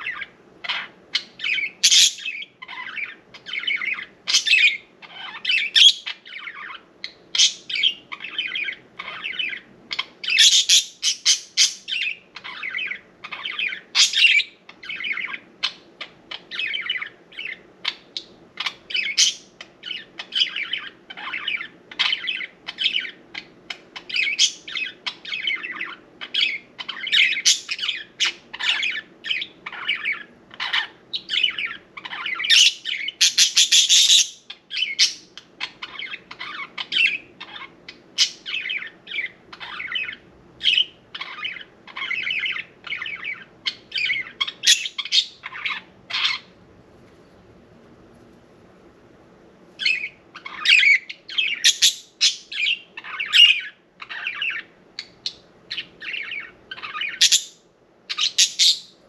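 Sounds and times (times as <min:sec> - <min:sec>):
budgerigars chattering: 0:00.0 - 0:46.5, 0:49.8 - 0:59.0.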